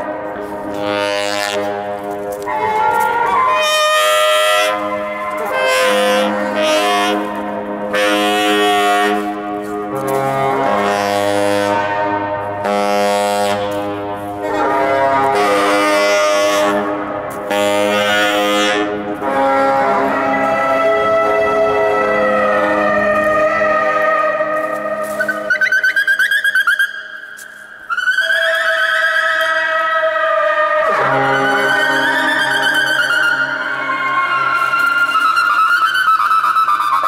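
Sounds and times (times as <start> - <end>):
tenor saxophone long notes: 0.0 - 25.6, 29.9 - 35.8.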